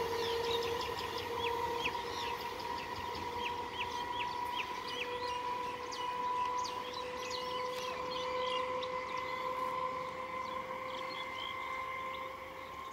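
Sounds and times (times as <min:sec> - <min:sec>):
faint steady whine: 0:00.0 - 0:12.9
small birds chirping: 0:00.0 - 0:12.9.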